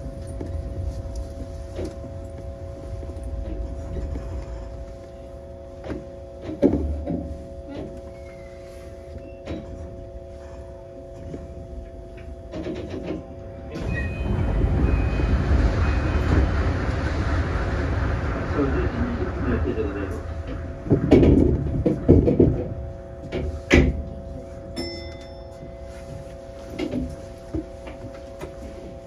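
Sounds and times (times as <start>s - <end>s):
monorail train running hum: 0.0s - 29.0s.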